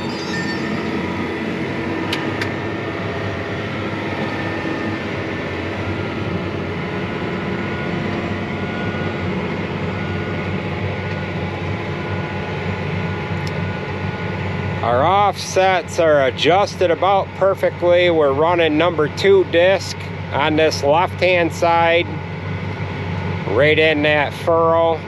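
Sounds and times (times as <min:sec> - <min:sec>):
tractor diesel engine drone: 0:00.0 - 0:25.0.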